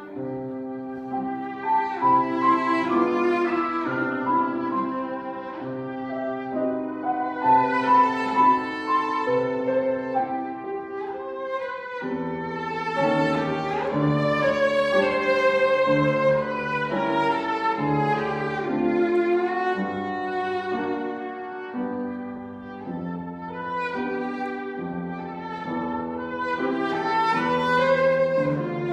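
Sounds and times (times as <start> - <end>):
cellos playing classical piece: 0.0 - 28.9.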